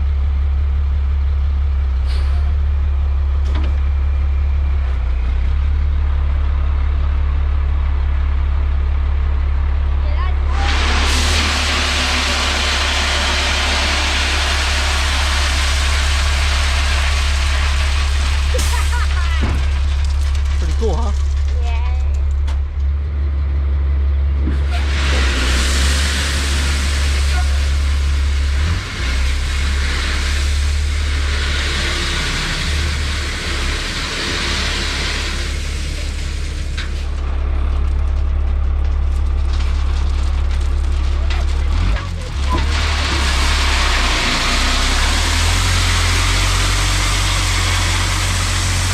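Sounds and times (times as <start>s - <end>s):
heavy vehicle engine running: 0.0s - 48.9s.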